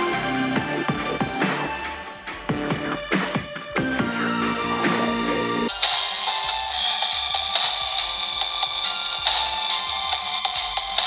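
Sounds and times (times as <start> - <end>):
electronic music through speaker: 0.0 - 11.0.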